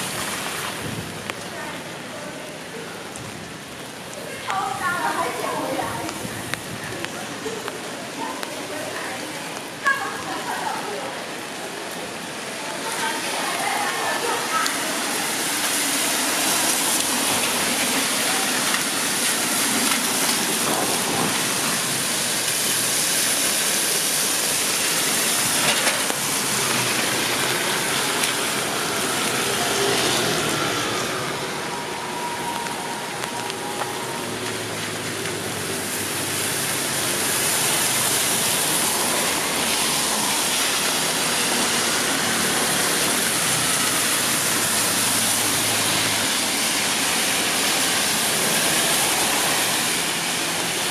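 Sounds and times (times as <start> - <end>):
rain hissing: 0.0 - 50.9.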